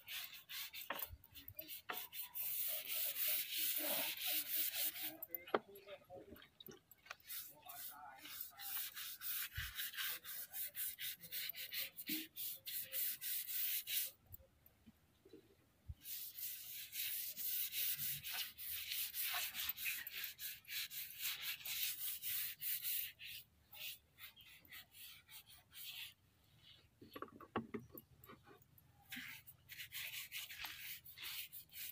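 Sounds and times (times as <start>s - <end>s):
paintbrush scrubbing on wood: 0.0s - 5.6s, 7.0s - 14.2s, 16.0s - 26.9s, 28.2s - 31.9s.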